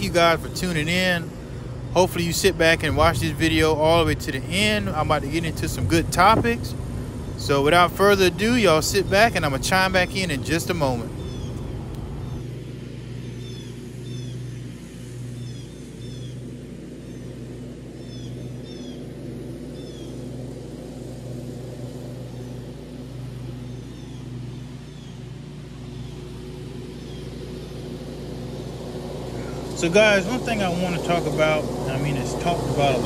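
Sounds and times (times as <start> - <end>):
birds chirping: 0.0 - 33.0
lawn mower engine droning: 0.0 - 33.0.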